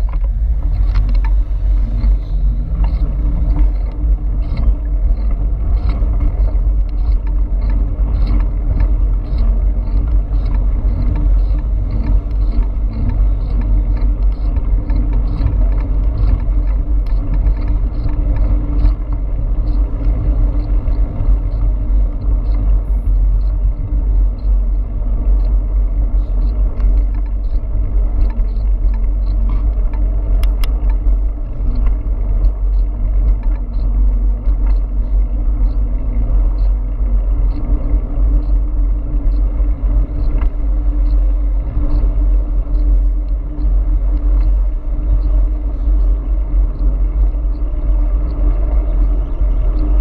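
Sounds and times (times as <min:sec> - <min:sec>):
faint regular ticking: 0:00.0 - 0:50.0
road noise: 0:00.0 - 0:50.0
wind buffeting microphone: 0:00.0 - 0:50.0.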